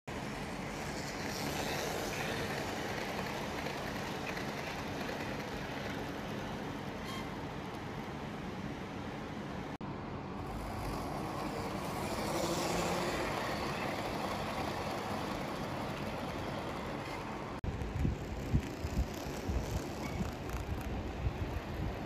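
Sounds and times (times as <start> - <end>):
model train wheels rolling on track: 0.1 - 8.9, 10.3 - 22.0.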